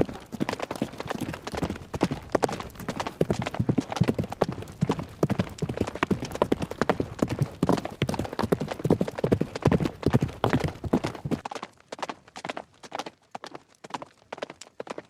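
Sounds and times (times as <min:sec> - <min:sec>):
horses galloping hoofbeats: 0:00.0 - 0:15.0.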